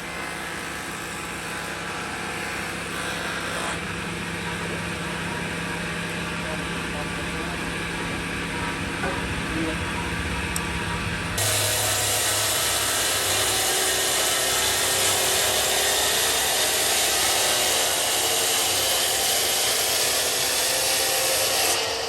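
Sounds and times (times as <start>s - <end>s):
power tool cutting wood: 0.0s - 10.7s, 11.4s - 22.0s.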